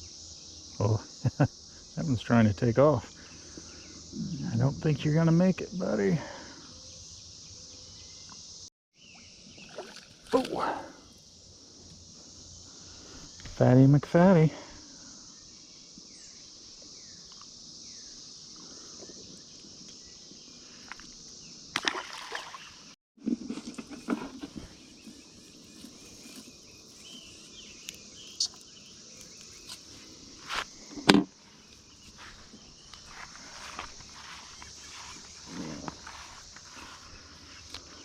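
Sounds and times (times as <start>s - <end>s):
cicada chorus drone: 0.0s - 38.0s.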